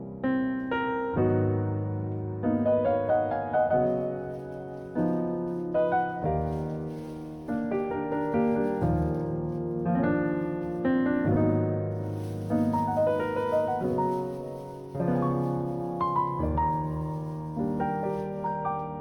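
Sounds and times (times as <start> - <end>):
gentle piano chords: 0.0 - 19.0.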